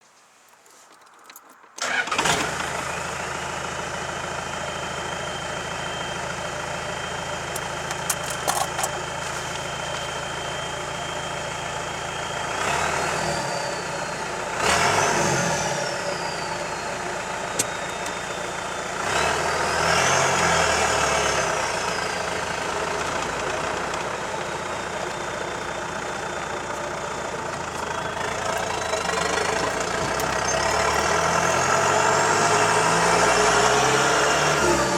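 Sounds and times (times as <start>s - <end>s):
diesel engine revving: 1.8s - 34.9s.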